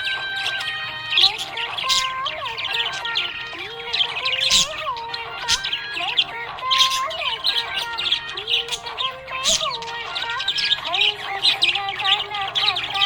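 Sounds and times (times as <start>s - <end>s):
budgie chirping and warbling: 0.0s - 13.0s.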